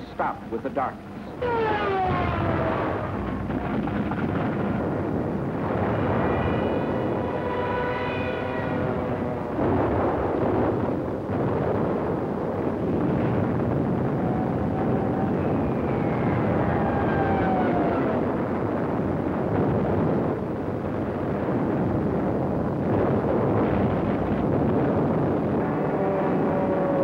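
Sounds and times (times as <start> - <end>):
explosions and gunfire: 1.4 - 7.4, 9.5 - 26.1.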